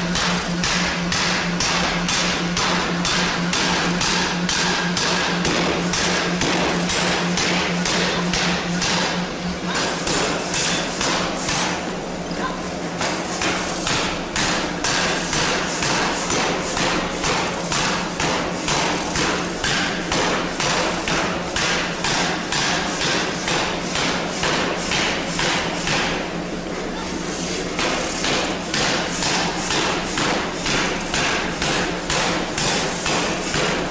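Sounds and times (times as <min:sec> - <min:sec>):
hammer striking steel: 0:00.1 - 0:11.9, 0:13.0 - 0:26.2, 0:27.8 - 0:33.9.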